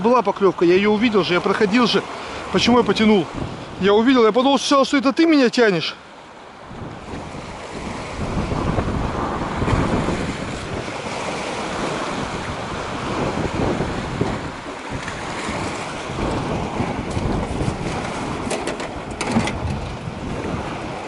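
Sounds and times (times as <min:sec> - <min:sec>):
wind buffeting microphone: 0:00.6 - 0:04.2, 0:06.6 - 0:21.0.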